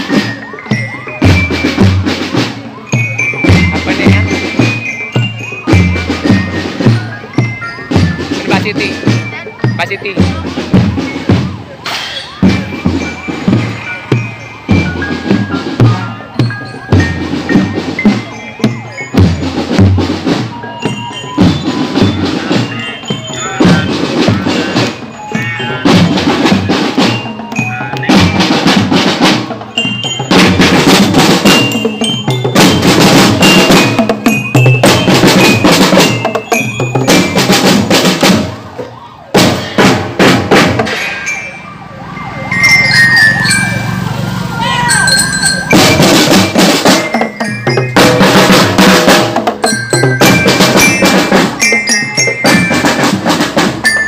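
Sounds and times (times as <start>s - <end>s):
glockenspiel bell melody: 0.0s - 39.3s, 40.9s - 54.0s
snare and bass drums: 0.0s - 41.2s, 45.3s - 54.0s.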